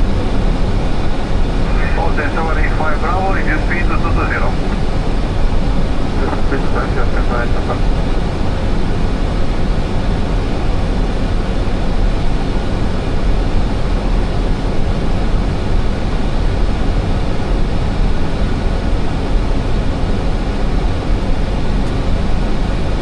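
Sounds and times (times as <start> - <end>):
airflow and engine rumble: 0.0 - 23.0.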